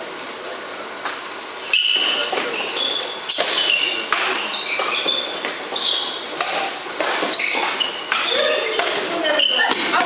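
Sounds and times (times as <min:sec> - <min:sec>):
shoes squeaking on court floor: 0:01.6 - 0:10.0
racket hitting shuttlecock: 0:01.8 - 0:10.0.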